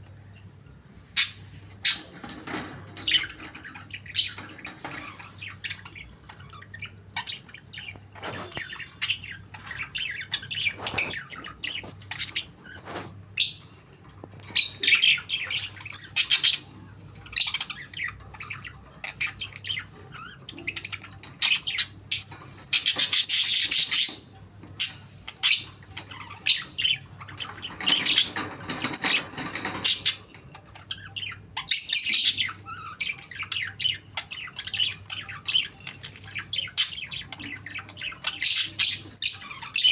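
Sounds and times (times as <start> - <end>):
budgerigar chirping: 1.2 - 13.7, 14.5 - 39.9.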